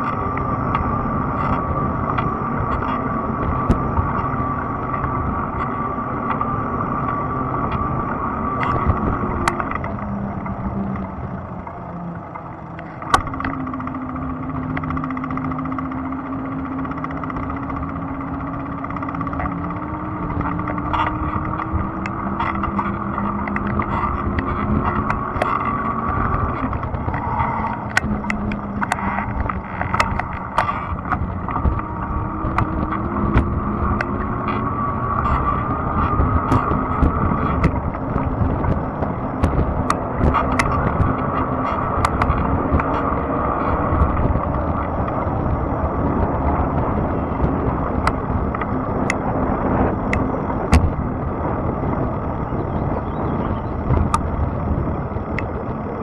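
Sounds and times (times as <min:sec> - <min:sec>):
faint motor whine: 0:00.0 - 0:56.0
tyres rumbling on trail: 0:00.0 - 0:56.0.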